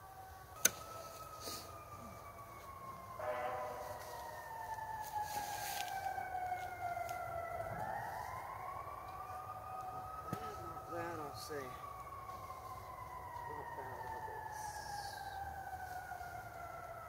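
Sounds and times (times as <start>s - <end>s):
sirens wailing: 0.0s - 17.0s.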